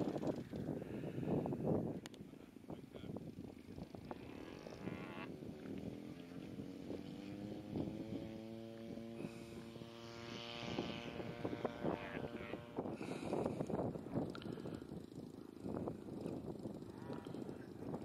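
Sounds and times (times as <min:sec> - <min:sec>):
model propeller motor whirring: 0:00.0 - 0:18.0
wind on microphone: 0:00.0 - 0:18.0.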